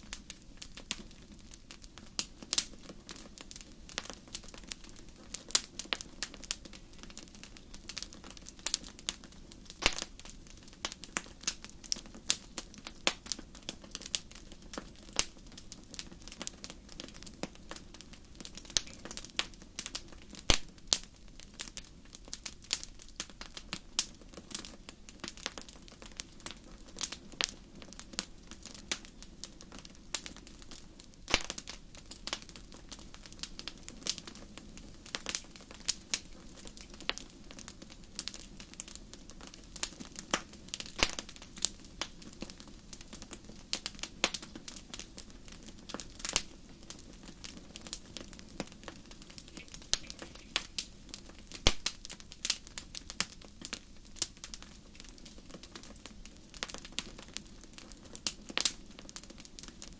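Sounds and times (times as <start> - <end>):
low steady hiss: 0.0 - 59.9
wood fire crackling: 0.0 - 59.9.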